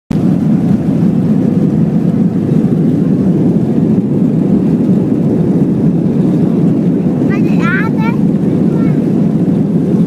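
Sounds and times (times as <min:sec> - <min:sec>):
airliner engines rumbling in cabin: 0:00.1 - 0:10.0.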